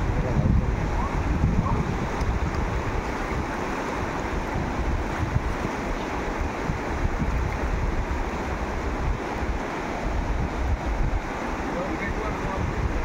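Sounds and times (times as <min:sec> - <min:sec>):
river rapids rushing: 0:00.0 - 0:13.0
wind rumble on microphone: 0:00.0 - 0:13.0.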